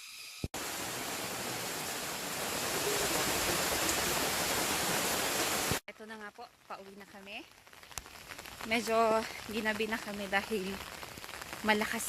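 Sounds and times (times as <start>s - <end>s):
heavy rain falling: 0.6s - 12.0s.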